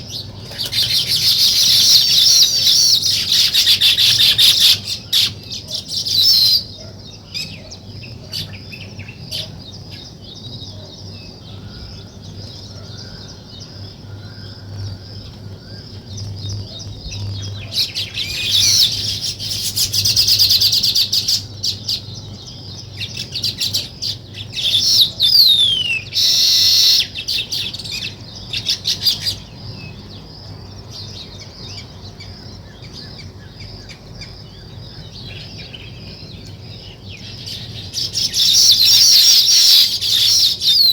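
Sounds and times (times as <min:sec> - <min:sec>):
songbirds chirping and chattering: 0:00.0 - 0:40.9.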